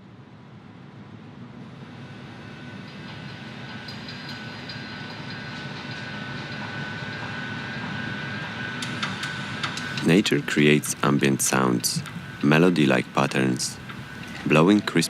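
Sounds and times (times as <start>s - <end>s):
train running: 0.5s - 15.0s
high-pitched whine: 1.5s - 15.0s.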